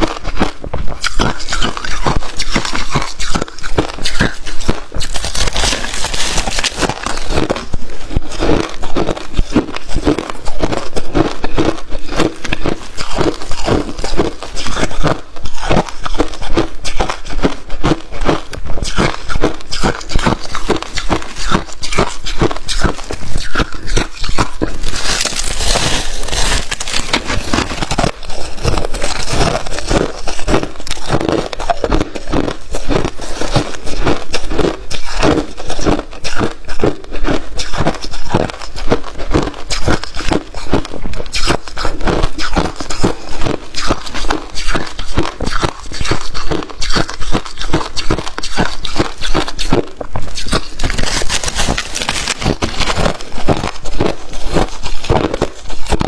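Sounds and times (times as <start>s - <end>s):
crunchy frost being chewed: 0.0s - 56.0s.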